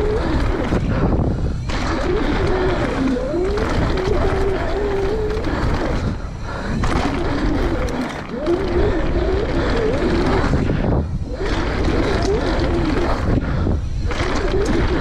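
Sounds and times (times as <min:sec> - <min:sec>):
bike tyres rattling over dirt: 0:00.0 - 0:15.0
wind rush: 0:00.0 - 0:15.0.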